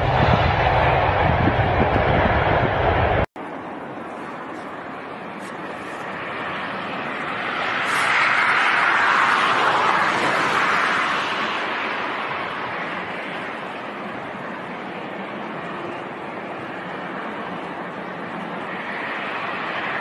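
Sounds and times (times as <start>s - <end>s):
jet aircraft roar: 0.0s - 20.0s.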